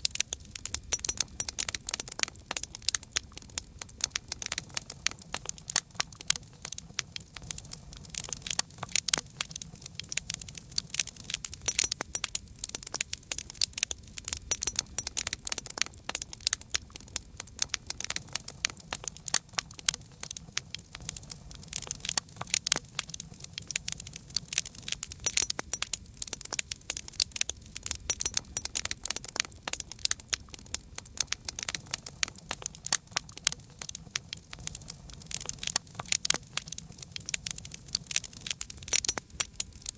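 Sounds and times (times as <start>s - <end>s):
burning wood popping: 0.0s - 39.9s
campfire crackling: 0.0s - 39.9s.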